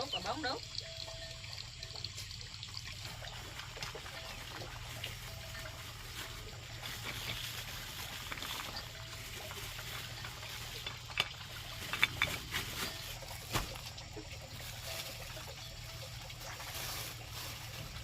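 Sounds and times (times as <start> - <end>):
rain pattering: 0.0 - 18.0.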